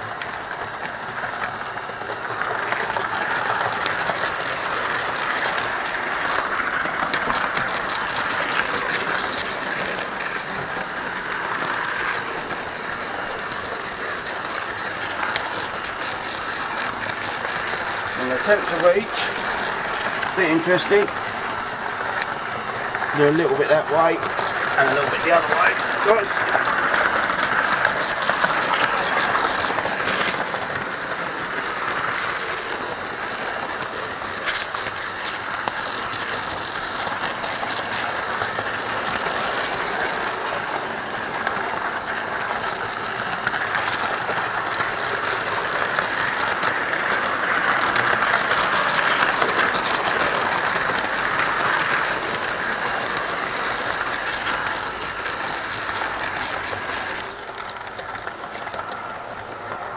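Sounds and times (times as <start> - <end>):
model train wheels and motor whirring: 0.0 - 59.9.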